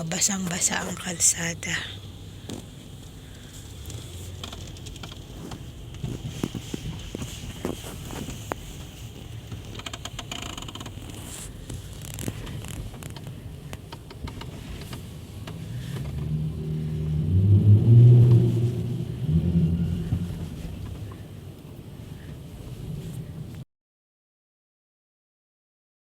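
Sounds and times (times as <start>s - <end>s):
car engine low drone: 0.0s - 23.6s
faint traffic: 0.0s - 23.6s.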